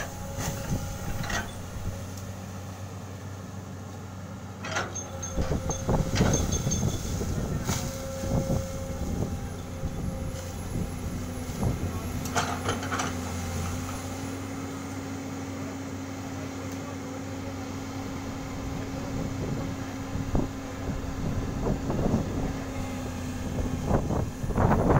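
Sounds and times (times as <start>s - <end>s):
excavator diesel engine humming: 0.0s - 24.9s.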